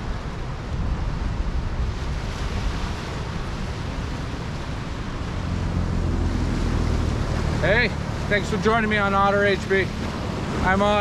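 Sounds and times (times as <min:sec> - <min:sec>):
surf washing onto beach: 0:00.0 - 0:11.0
wind rumble on microphone: 0:00.0 - 0:11.0.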